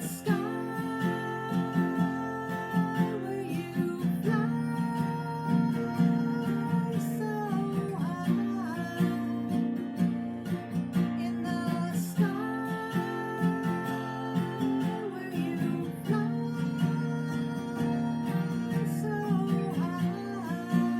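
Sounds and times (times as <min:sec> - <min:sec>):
acoustic guitar strummed: 0:00.0 - 0:20.9.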